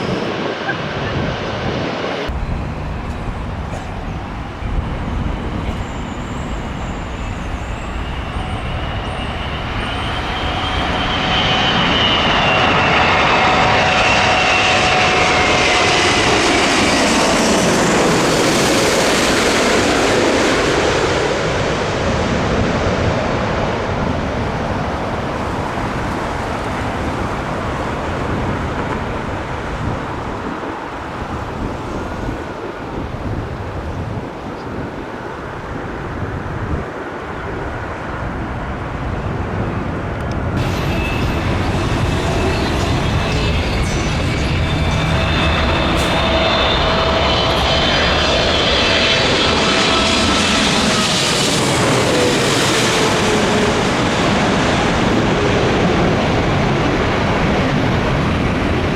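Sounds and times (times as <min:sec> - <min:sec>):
jet airliner passing overhead: 0:00.0 - 0:58.9.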